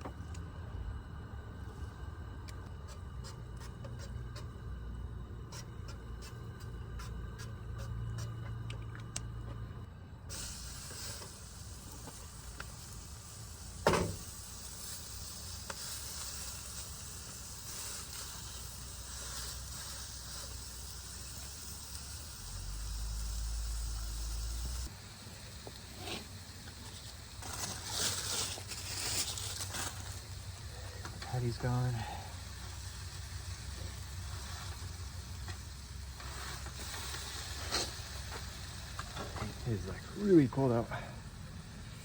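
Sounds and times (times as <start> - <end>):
burger patties sizzling on grill: 0.0 - 9.6, 10.2 - 42.0.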